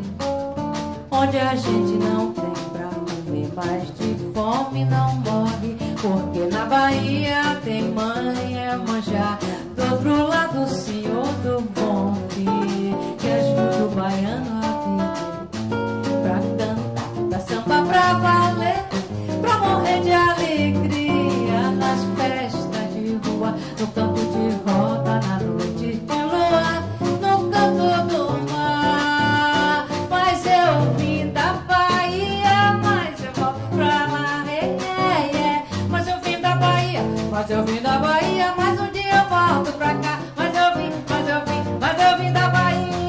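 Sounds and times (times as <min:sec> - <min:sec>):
drums: 0:00.0 - 0:43.0
guitar: 0:00.0 - 0:43.0
woman singing: 0:00.0 - 0:43.0.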